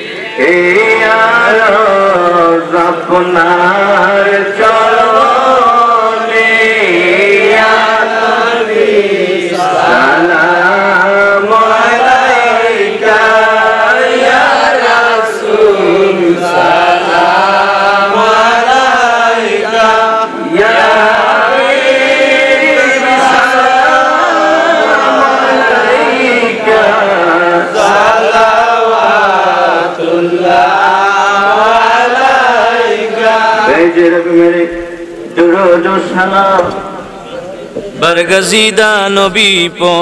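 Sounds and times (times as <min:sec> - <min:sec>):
man singing devotional song: 0:00.0 - 0:40.0.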